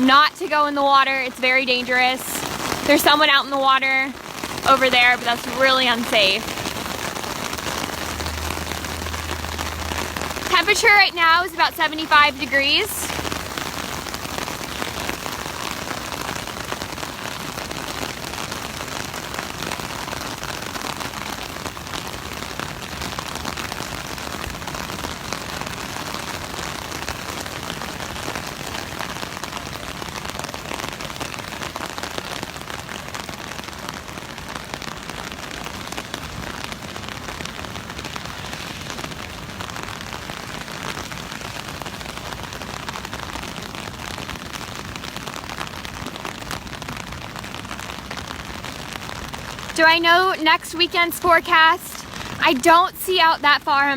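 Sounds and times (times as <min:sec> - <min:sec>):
heavy rain on an umbrella: 0:00.0 - 0:53.9.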